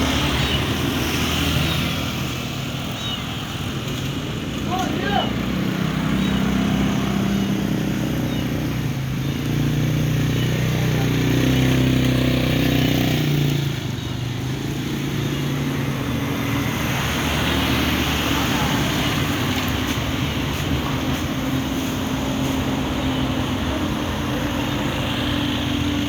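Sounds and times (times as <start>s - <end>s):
street noise: 0.0s - 26.0s
vehicle engine revving: 5.0s - 26.0s.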